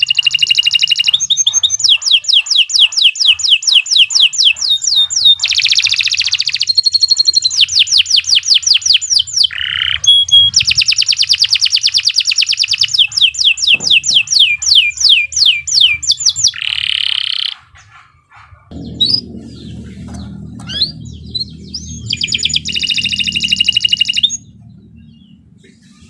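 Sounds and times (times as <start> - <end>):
canary singing: 0.0 - 26.0.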